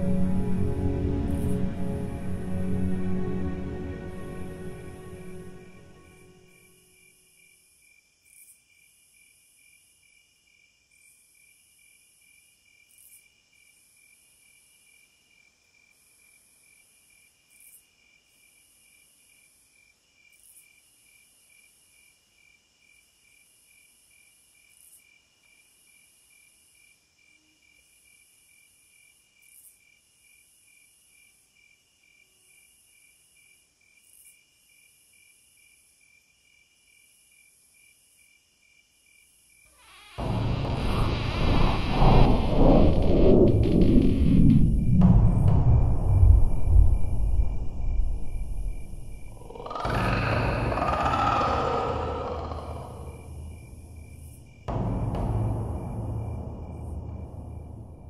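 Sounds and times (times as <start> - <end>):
crickets chirping: 0.0 - 58.0
high hissy insect sound: 0.0 - 58.0.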